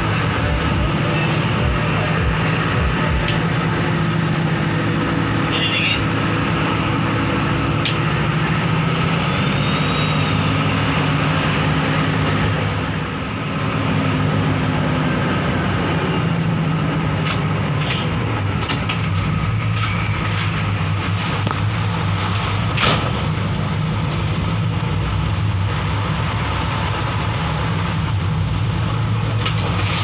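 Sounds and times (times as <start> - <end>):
bus engine and road noise: 0.0 - 30.0.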